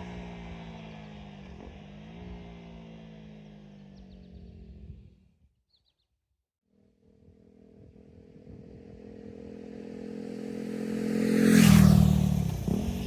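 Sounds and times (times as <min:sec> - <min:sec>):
motorcycle passing by: 0:00.0 - 0:05.2, 0:07.0 - 0:13.0.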